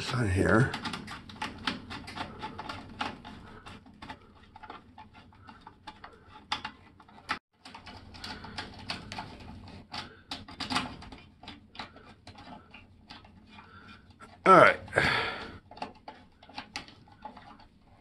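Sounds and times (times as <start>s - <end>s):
small clicks and taps: 0.6s - 14.4s, 15.5s - 17.8s.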